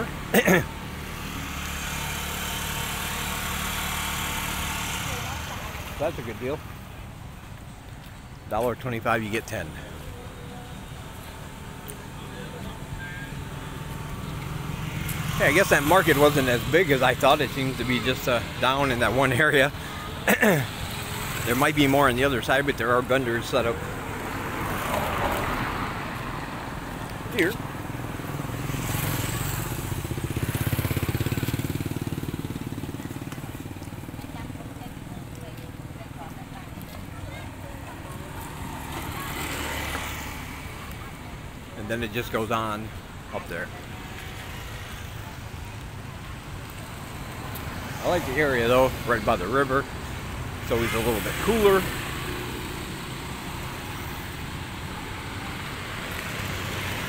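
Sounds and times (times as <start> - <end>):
small motorcycle engine passing: 0.0 - 6.9, 9.9 - 41.2, 43.4 - 57.0
street traffic rumble and hiss: 0.0 - 57.0.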